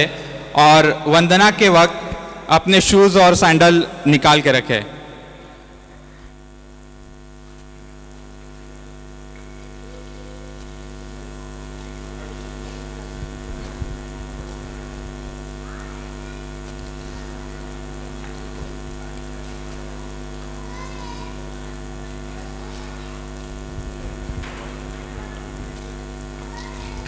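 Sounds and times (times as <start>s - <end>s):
electrical hum and buzz: 0.0s - 27.0s.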